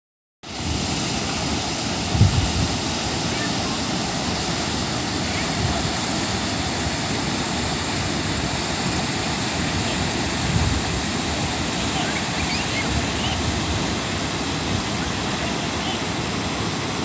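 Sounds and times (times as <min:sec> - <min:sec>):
waterfall rushing: 0:00.5 - 0:17.0.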